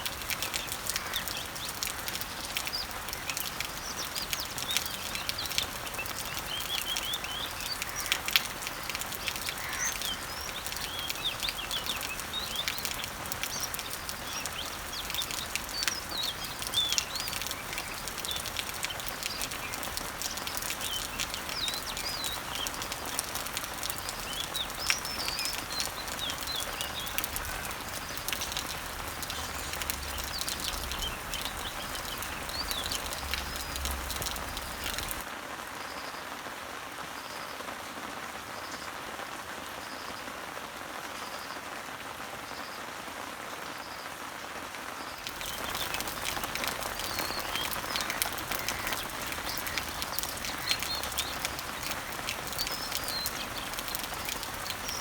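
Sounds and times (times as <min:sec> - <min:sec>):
small birds chirping: 0:00.0 - 0:35.3, 0:45.0 - 0:55.0
rain falling on leaves: 0:00.0 - 0:55.0.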